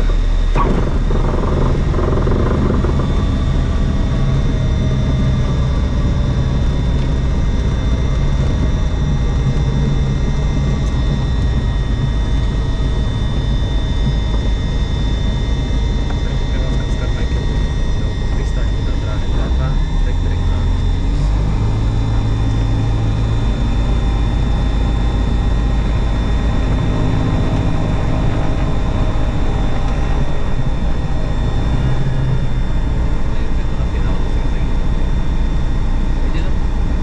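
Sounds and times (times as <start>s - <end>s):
aircraft engine and propeller idling: 0.0s - 37.0s.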